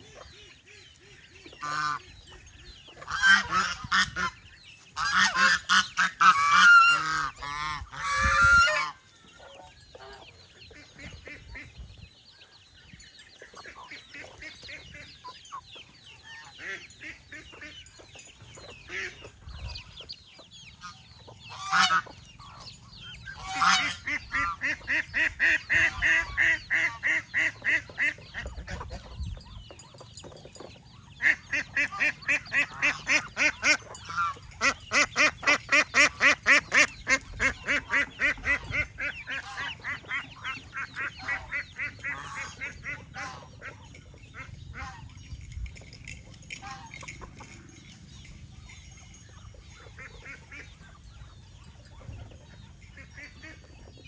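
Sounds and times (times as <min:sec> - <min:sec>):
geese and ducks calling: 0:00.0 - 0:54.0.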